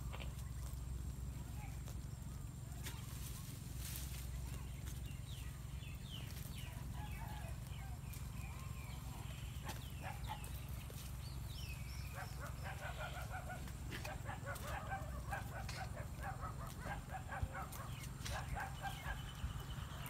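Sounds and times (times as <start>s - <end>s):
birds calling: 0.0s - 20.0s
goats browsing on leafy branches: 0.0s - 20.0s
steady low rumble: 0.0s - 20.0s.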